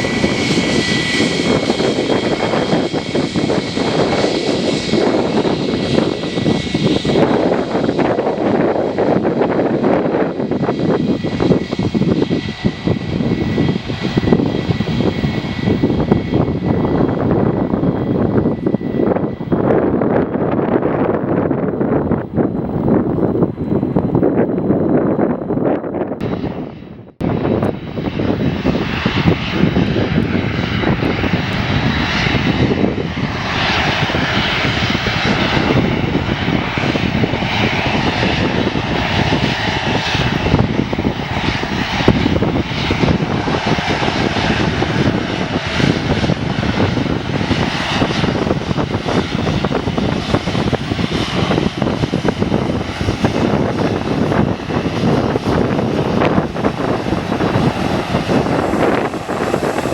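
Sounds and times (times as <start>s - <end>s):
jet airliner engine noise: 0.0s - 59.9s.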